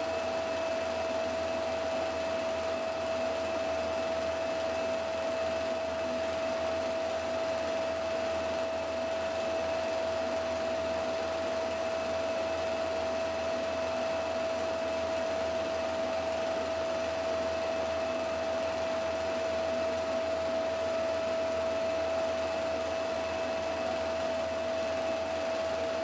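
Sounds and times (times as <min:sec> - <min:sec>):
film projector whirring: 0:00.0 - 0:26.0.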